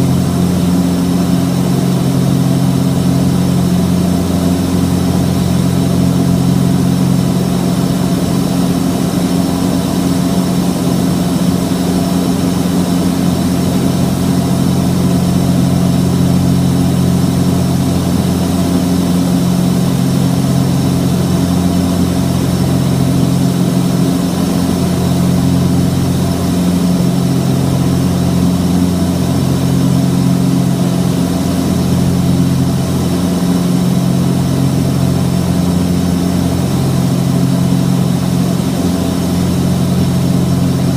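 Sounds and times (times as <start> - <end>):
aircraft engines droning: 0.0 - 40.9.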